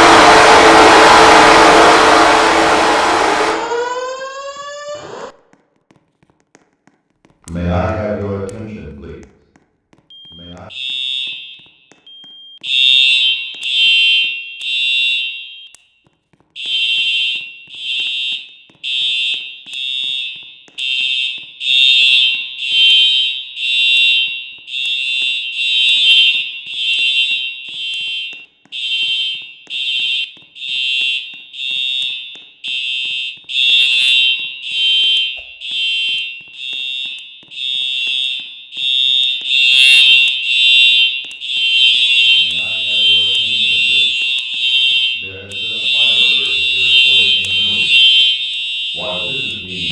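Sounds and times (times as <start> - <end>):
fire alarm tone pulses: 0.0 - 5.4, 10.1 - 49.9.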